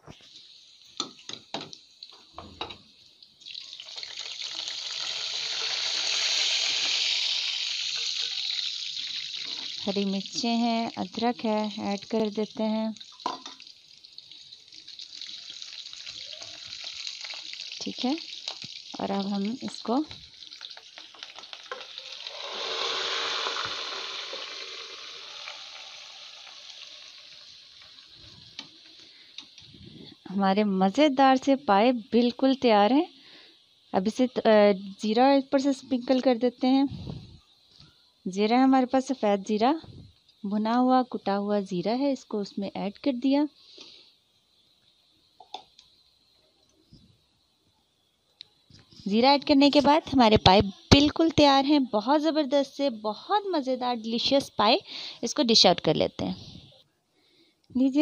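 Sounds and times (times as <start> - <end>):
hot oil sizzling: 0.0 - 36.8, 37.5 - 46.4, 47.2 - 56.0.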